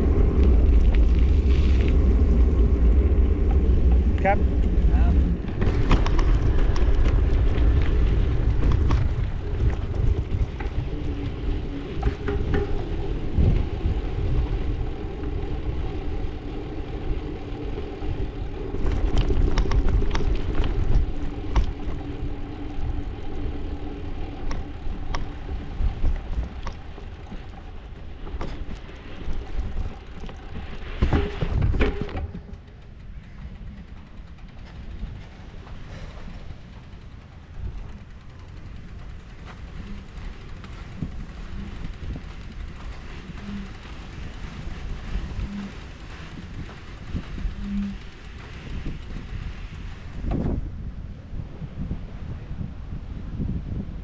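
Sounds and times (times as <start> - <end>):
road noise: 0.0 - 53.2
engine hum: 0.0 - 54.0
wind rumble: 0.0 - 54.0.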